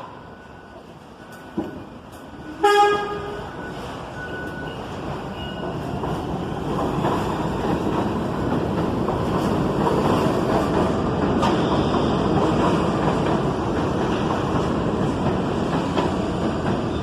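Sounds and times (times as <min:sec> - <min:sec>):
subway train rumbling on track: 0:00.0 - 0:17.0.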